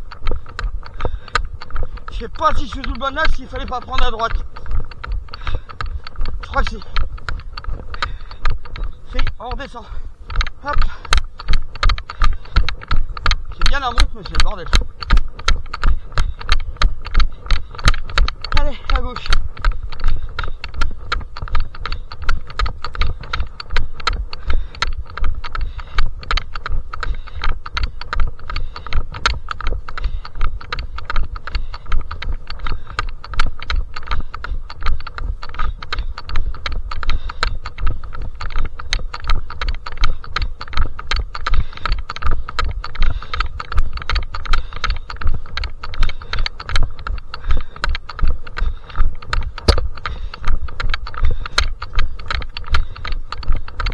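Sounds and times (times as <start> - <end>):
running footsteps on path: 0.0 - 53.9.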